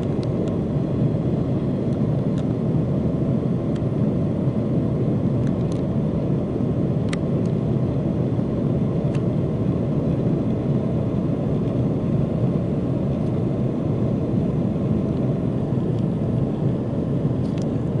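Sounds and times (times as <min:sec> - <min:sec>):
airliner cabin roar: 0:00.0 - 0:18.0.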